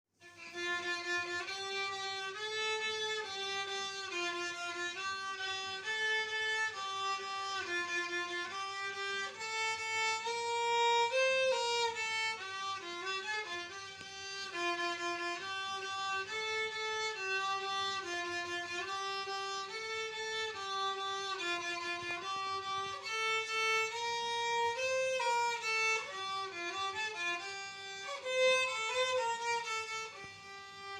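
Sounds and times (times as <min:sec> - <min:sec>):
solo violin slow melody: 0:00.2 - 0:30.9.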